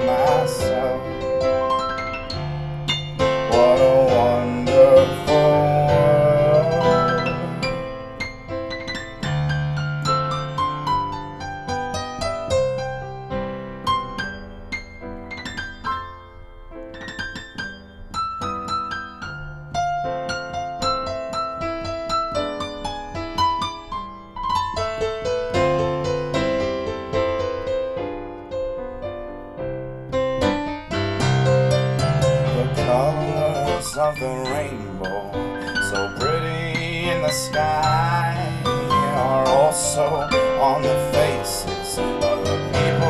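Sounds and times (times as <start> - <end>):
digital piano ballad solo: 0.0 - 43.0.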